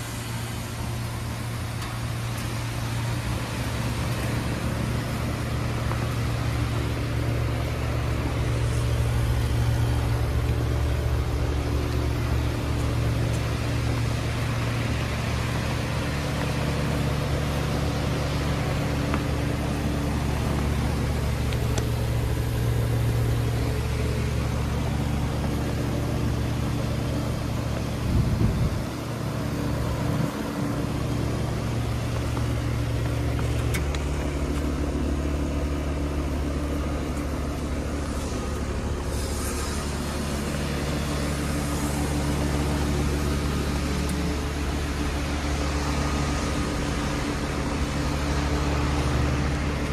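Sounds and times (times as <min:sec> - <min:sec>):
heat pump compressor hum: 0:00.0 - 0:49.9.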